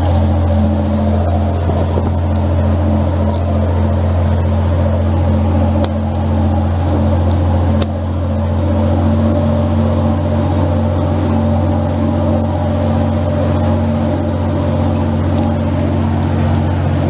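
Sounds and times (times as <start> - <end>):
ferry diesel engines droning: 0.0 - 17.0
propeller wake rushing: 0.0 - 17.0.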